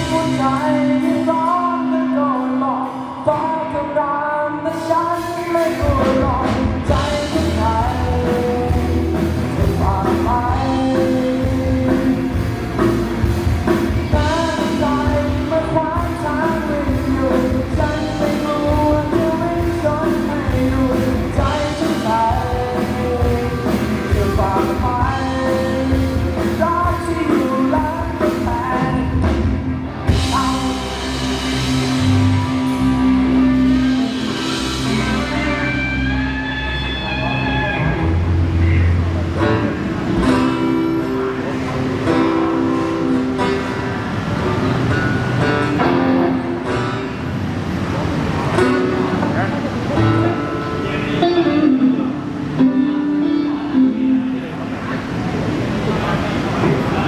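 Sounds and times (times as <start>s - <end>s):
person singing: 0.0s - 43.7s, 48.6s - 54.6s
live rock band playing: 0.0s - 57.0s.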